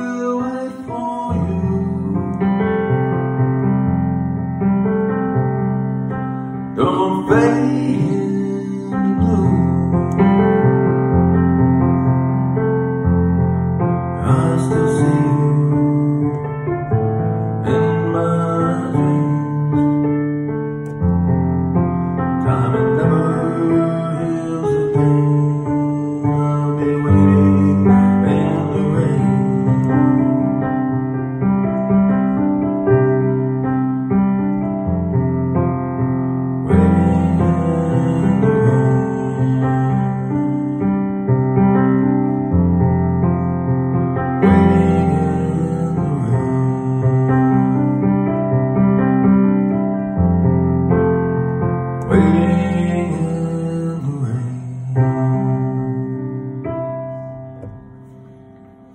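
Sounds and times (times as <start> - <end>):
keyboard playing slow chords: 0.0 - 58.9.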